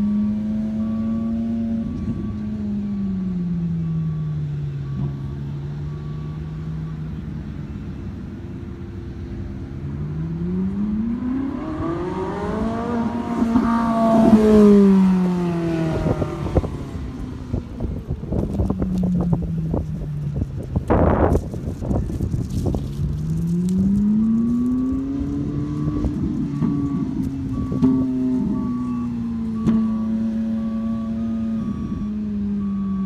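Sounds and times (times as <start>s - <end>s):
sports car engine revving: 0.0s - 7.4s, 8.8s - 33.0s.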